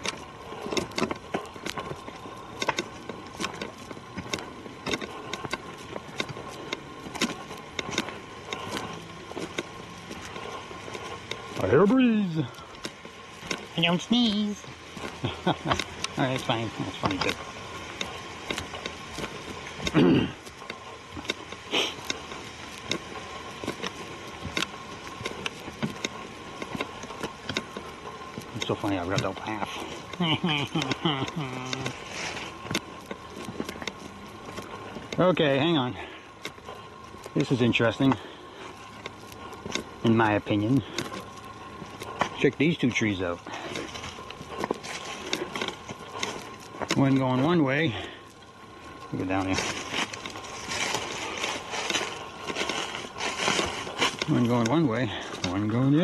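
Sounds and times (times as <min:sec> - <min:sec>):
footsteps crunching on a trail: 0:00.0 - 0:56.0.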